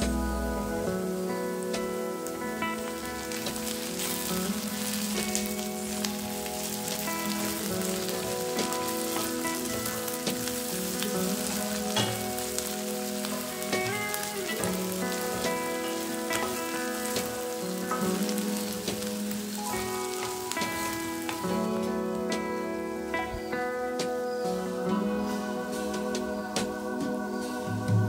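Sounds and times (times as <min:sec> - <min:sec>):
vegetables sizzling in oil: 0:00.0 - 0:27.8
background music with held notes: 0:00.0 - 0:28.0.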